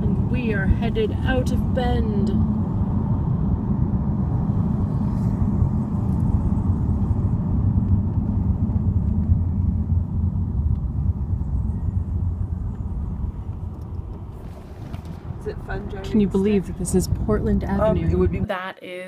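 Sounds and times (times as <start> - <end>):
car interior road rumble: 0.0 - 18.6.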